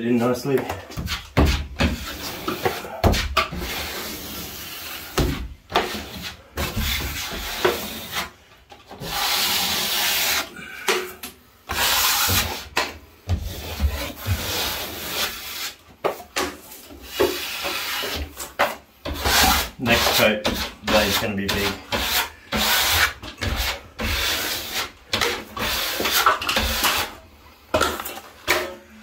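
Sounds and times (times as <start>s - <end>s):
taping knife scraping plaster: 0.9s - 8.3s, 8.9s - 10.9s, 11.7s - 12.8s, 13.4s - 27.2s.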